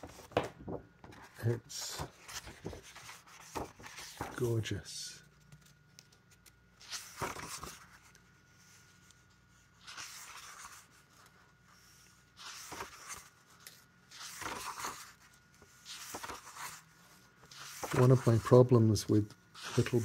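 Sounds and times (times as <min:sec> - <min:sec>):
book pages turning: 0:00.0 - 0:20.0.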